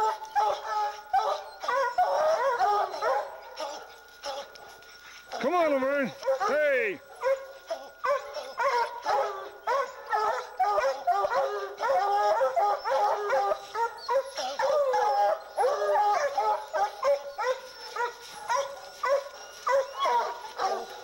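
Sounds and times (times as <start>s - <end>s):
hounds baying and barking: 0.0s - 21.0s.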